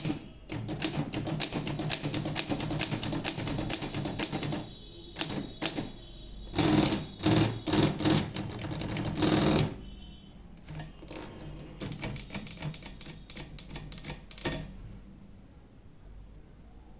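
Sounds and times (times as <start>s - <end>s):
typewriter keystrokes: 0.0s - 9.8s, 10.6s - 14.8s.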